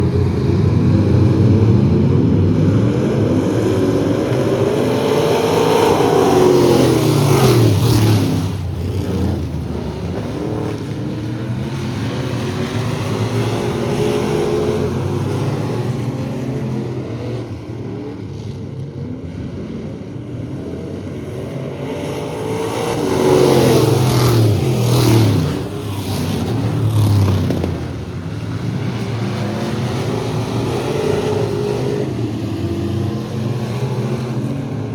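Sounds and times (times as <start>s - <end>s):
race truck engines passing by: 0.0s - 34.9s.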